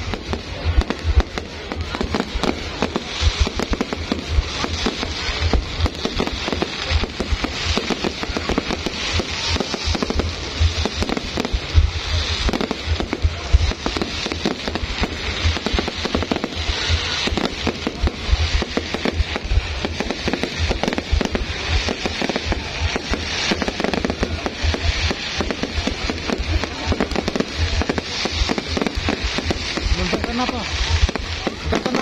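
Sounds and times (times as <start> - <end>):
deep fireworks booms: 0.0 - 32.0
fireworks bangs and crackling: 0.0 - 32.0.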